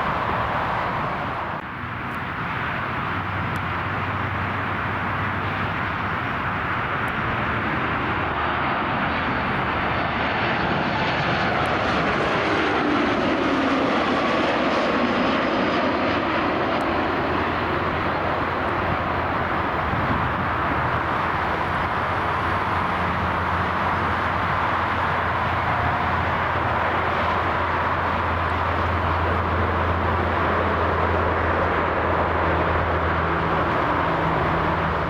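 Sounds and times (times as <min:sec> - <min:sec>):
jet airliner engines passing: 0:00.0 - 0:35.0.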